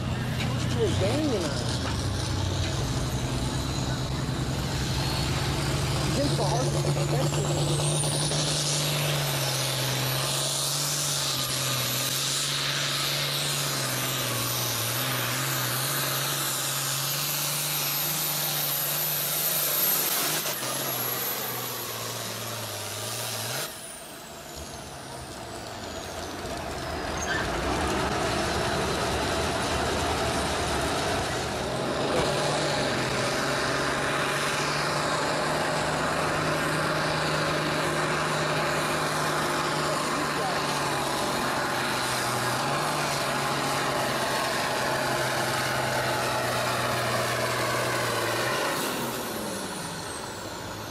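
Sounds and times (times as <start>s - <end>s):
tractor diesel engine at full throttle: 0.0s - 50.9s.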